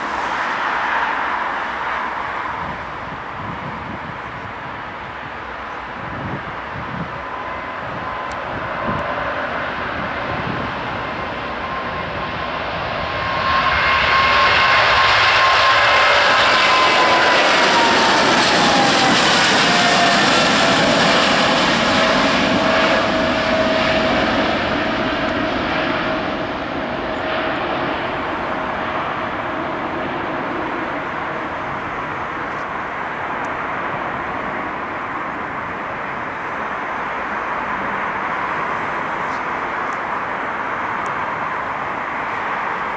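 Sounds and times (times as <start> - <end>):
jet engines at takeoff thrust: 0.0 - 42.9.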